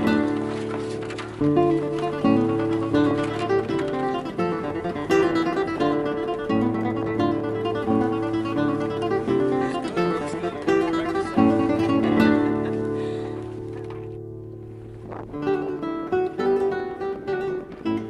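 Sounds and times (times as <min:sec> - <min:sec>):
acoustic guitar tune: 0:00.0 - 0:18.0.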